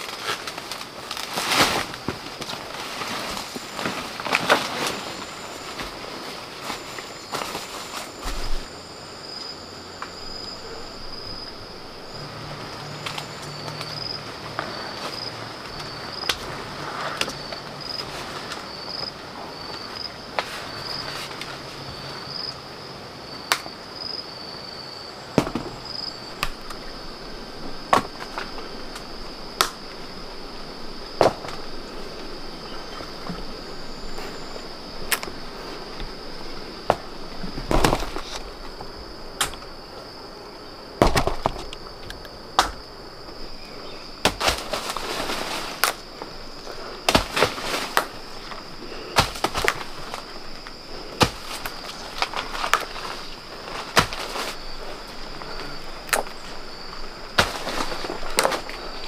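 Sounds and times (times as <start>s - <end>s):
insect chirring: 0.0s - 59.0s.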